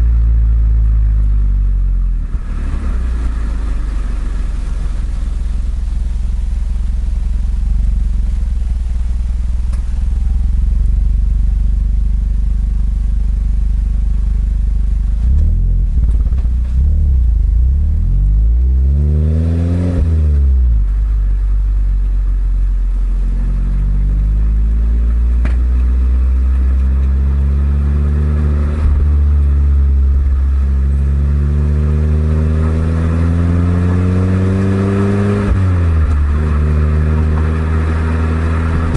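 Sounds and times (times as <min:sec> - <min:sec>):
car exhaust note while driving: 0:00.0 - 0:38.9.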